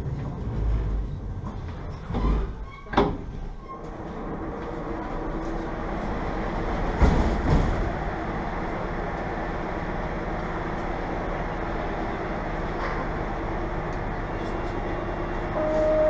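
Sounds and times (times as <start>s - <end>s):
subway doors opening: 0.0s - 16.0s
train hum: 0.0s - 16.0s.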